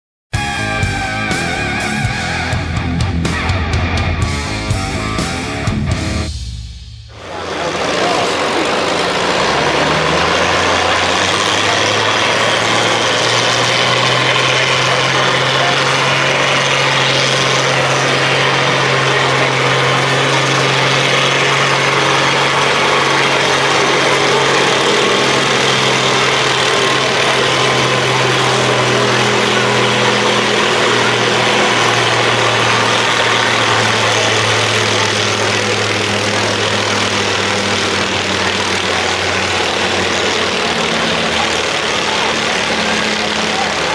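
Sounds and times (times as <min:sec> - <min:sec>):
diesel tractor engine running: 0:00.3 - 0:43.9.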